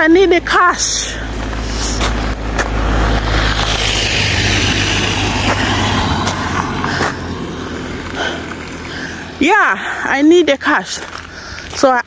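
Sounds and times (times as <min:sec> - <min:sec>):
low car engine rumble: 0:00.0 - 0:12.0.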